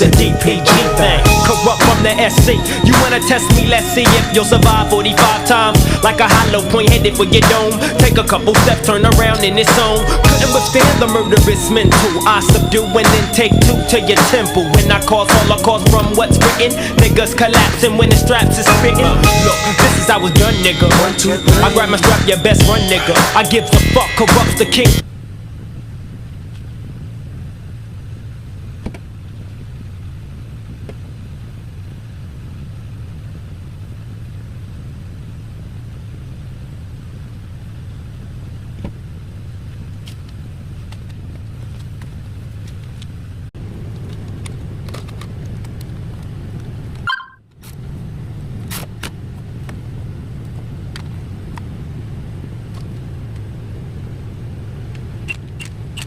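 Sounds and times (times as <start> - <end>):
low engine rumble: 0.0 - 56.0.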